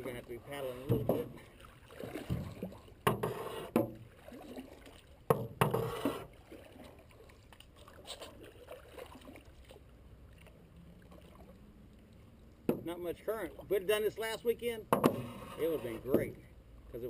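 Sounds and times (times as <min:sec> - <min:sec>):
paddles splashing through water: 0:00.0 - 0:16.5
faint water sounds: 0:00.0 - 0:17.0.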